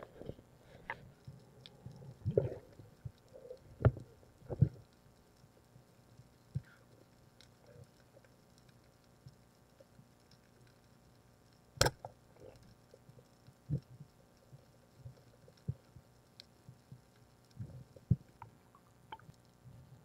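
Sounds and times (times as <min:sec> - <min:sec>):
faint underwater background: 0:00.0 - 0:20.0.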